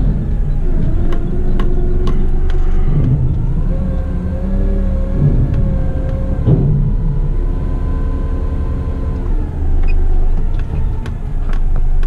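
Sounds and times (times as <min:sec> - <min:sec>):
drivetrain whine: 0:00.0 - 0:12.0
truck diesel engine drone: 0:00.0 - 0:12.0.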